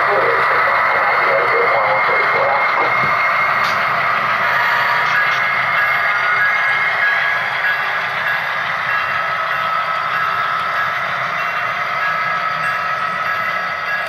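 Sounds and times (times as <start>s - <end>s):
model locomotive engine sound: 0.0s - 14.0s
steady high whine: 0.0s - 14.0s.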